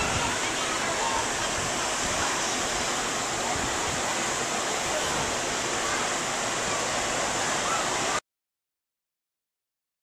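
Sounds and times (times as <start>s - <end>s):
distant voices of people: 0.0s - 8.2s
steady rushing noise: 0.0s - 8.2s.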